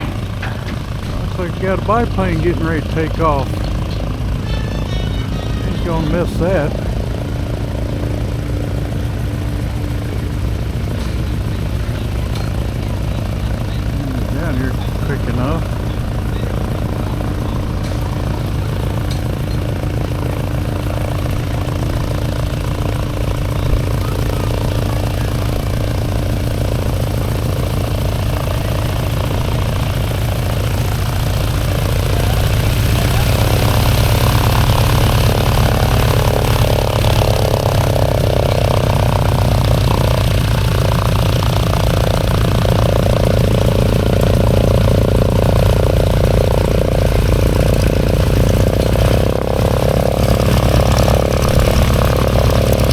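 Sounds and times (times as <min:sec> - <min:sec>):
model airplane engine running: 0:00.0 - 0:52.9.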